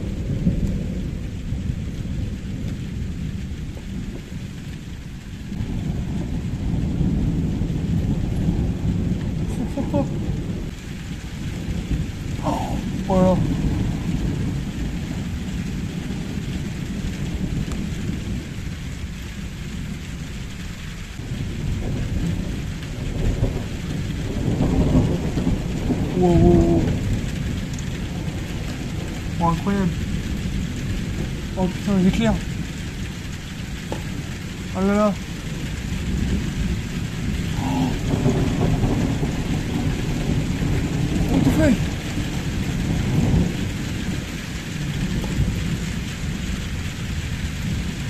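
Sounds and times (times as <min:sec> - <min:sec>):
heavy rain pouring: 0:00.0 - 0:48.0
rolling thunder: 0:00.0 - 0:48.0.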